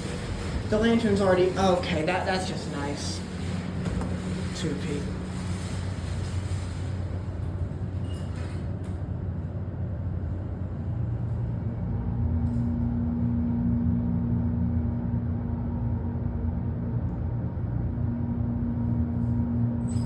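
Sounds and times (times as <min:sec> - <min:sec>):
elevator low hum: 0:00.0 - 0:20.0.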